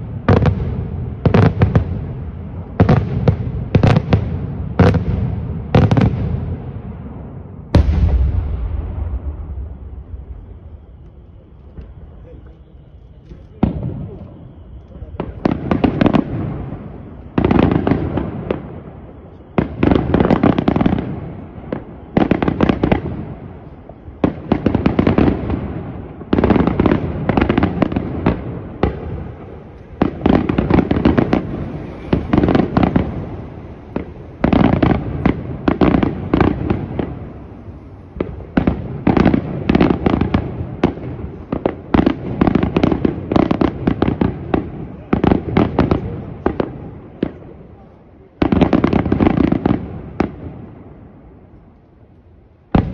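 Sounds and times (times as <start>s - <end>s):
fireworks bursting with crackling: 0.0s - 52.9s.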